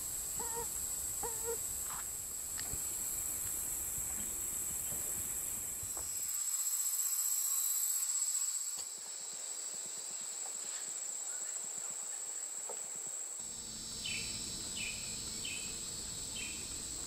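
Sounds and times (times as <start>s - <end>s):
insects singing: 0.0s - 10.4s, 11.0s - 17.0s.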